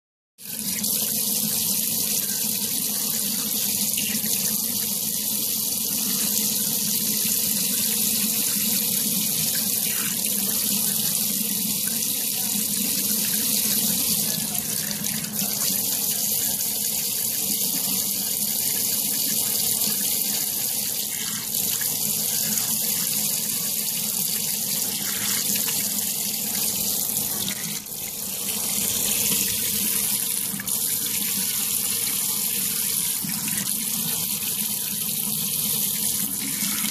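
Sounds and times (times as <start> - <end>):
tap water running into sink: 0.4 - 36.9.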